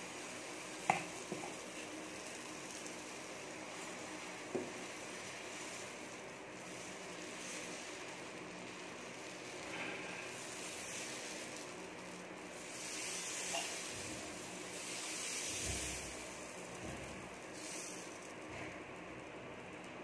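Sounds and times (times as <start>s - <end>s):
batter sizzling on hot griddle: 0.0s - 20.0s.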